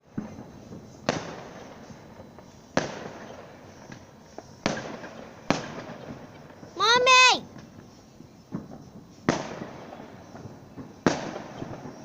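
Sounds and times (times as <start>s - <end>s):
fireworks bangs with echo: 0.0s - 7.8s, 8.4s - 12.0s
small firework crack: 0.0s - 12.0s.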